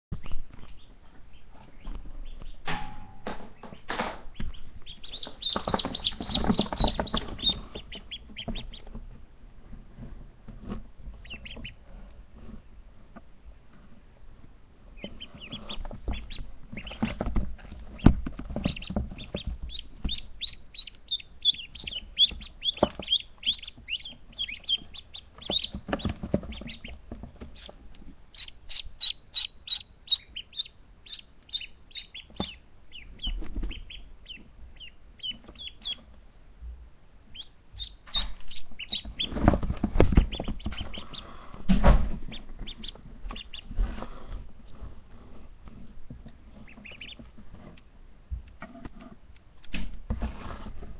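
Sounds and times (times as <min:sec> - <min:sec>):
ducklings peeping: 0:00.1 - 0:50.9
rustling: 0:00.2 - 0:36.2, 0:37.3 - 0:50.9.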